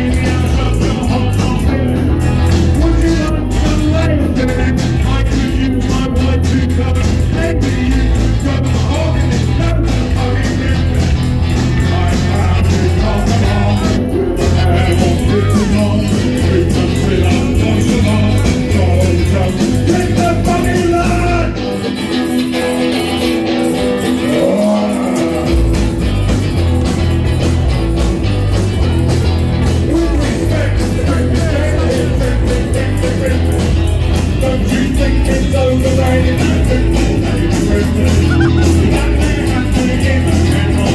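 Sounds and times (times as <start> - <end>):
male lead vocal: 0.0 - 26.2, 29.6 - 40.9
bass guitar: 0.0 - 40.9
drums: 0.0 - 40.9
tambourine: 0.0 - 40.9.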